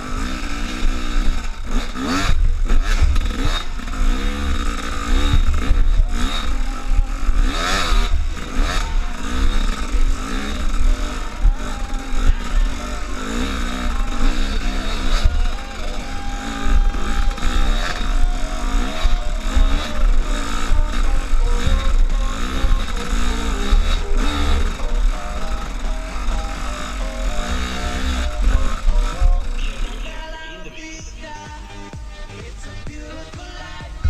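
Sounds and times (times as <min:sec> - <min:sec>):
low buffeting rumble: 0:00.0 - 0:30.4
engine revving: 0:00.0 - 0:34.0.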